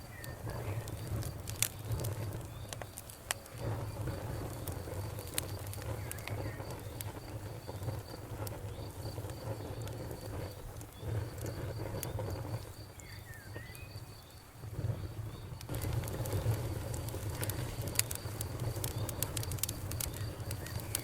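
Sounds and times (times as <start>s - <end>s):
fire crackling and popping: 0.0s - 21.0s
flames rumbling: 0.0s - 21.0s.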